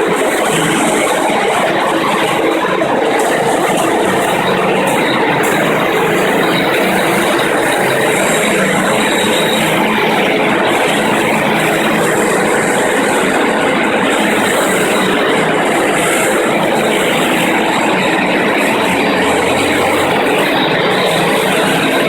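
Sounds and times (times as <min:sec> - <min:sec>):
floor grinder grinding concrete: 0:00.0 - 0:22.0.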